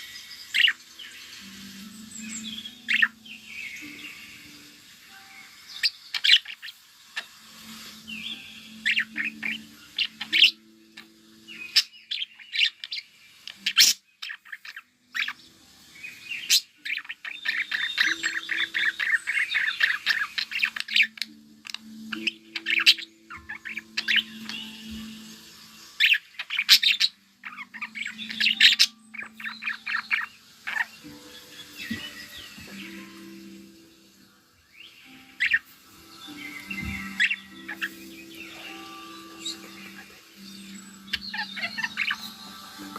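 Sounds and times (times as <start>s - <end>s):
budgerigars chirping and warbling: 0.0s - 42.9s.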